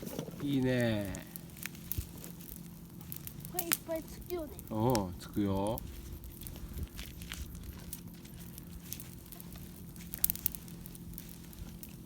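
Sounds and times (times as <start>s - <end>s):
bonfire crackling and popping: 0.0s - 12.0s.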